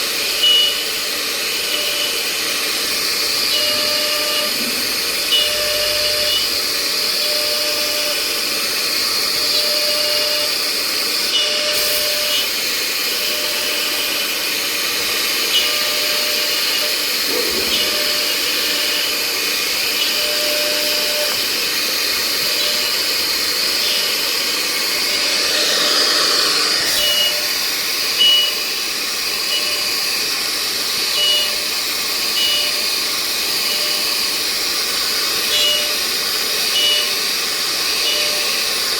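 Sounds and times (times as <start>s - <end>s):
router spindle whine and hiss: 0.0s - 38.9s.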